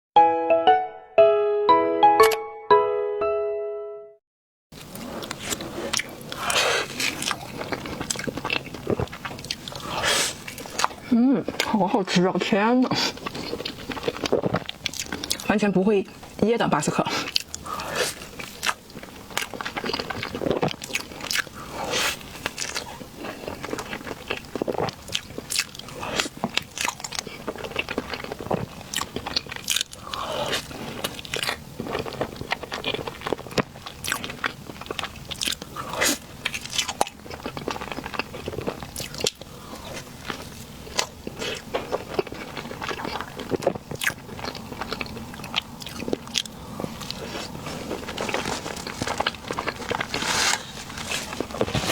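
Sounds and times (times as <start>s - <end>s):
person chewing with smacks: 4.8s - 15.5s, 16.1s - 51.9s.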